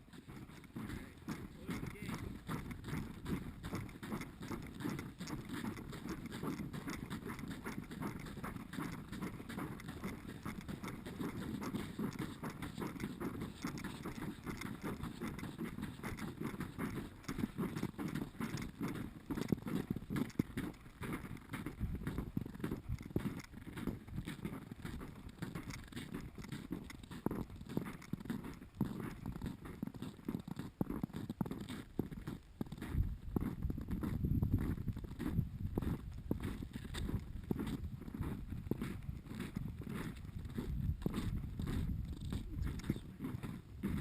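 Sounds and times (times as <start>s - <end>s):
footsteps crunching through snow: 0.0s - 44.0s.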